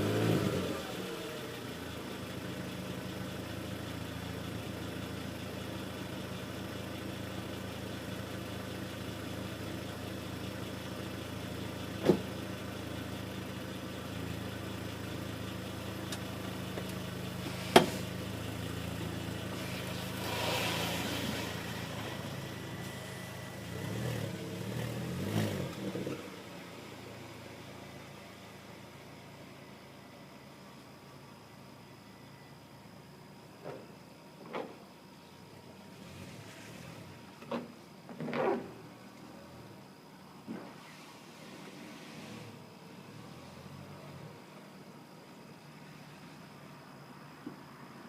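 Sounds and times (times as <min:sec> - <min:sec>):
car engine idling: 0:00.0 - 0:40.5.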